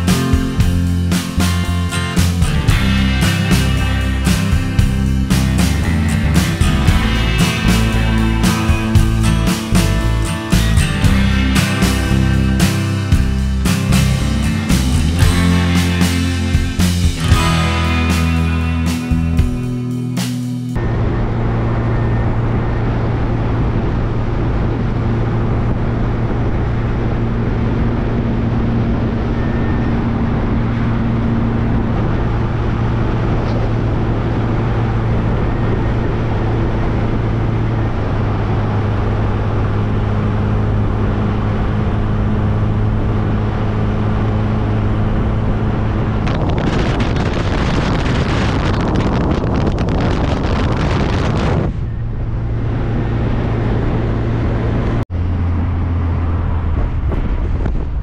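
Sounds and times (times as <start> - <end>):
car engine cruising: 0.0 - 58.0
road and wind noise: 0.0 - 58.0.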